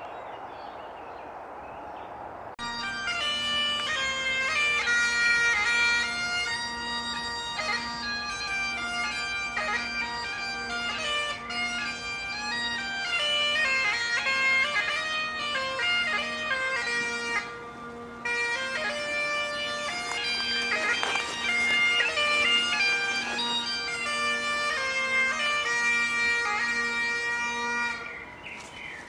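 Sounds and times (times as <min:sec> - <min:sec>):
bagpipes playing a melody: 0:02.6 - 0:28.2.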